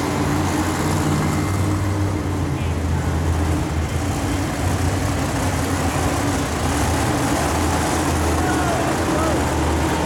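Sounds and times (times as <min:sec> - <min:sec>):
truck engine droning: 0:00.0 - 0:10.0
arena crowd noise: 0:01.6 - 0:10.0.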